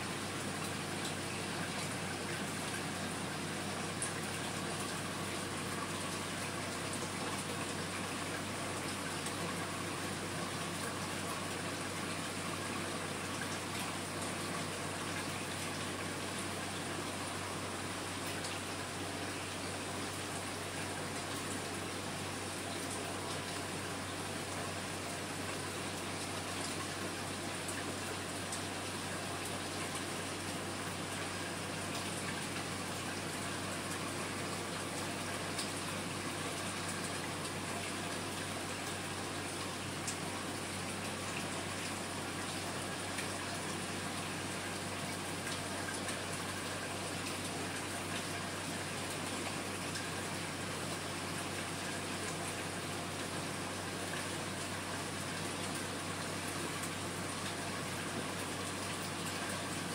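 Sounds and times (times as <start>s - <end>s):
aquarium water trickling: 0.0s - 59.9s.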